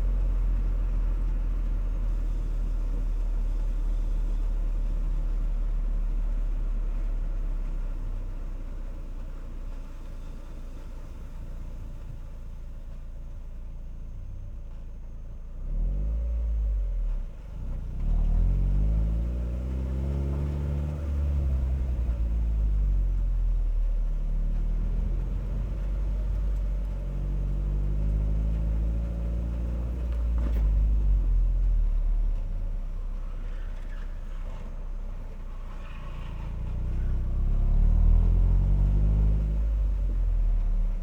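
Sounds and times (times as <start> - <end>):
car exhaust rumble: 0.0 - 41.0.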